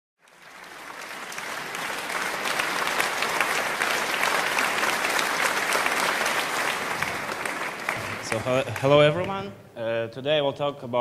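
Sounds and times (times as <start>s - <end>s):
audience applauding: 0.2s - 9.6s.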